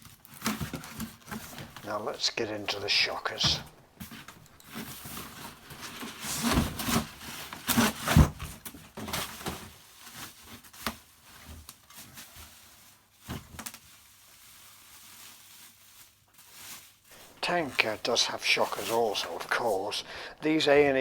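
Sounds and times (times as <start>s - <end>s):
packaging rustling and scraping: 0.0s - 20.0s.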